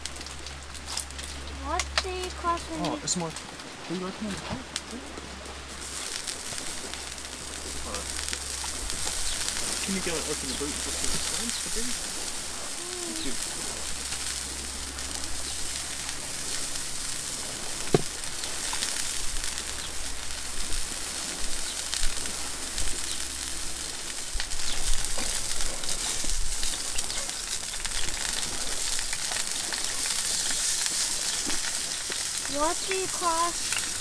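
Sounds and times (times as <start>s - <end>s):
rain on a tarp: 0.0s - 34.0s
oil sizzling in a frying pan: 5.6s - 34.0s.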